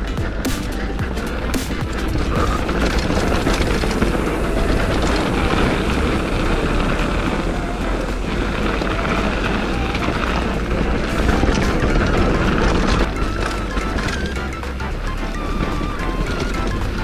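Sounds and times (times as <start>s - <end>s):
bike knocks and rattles: 0.0s - 14.8s
bike tyres rumbling on gravel: 0.0s - 17.0s.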